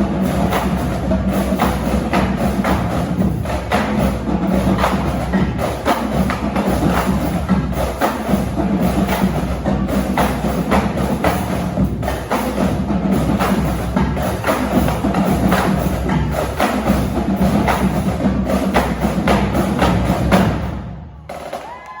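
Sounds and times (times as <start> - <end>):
marching drumline cadence: 0.0 - 22.0.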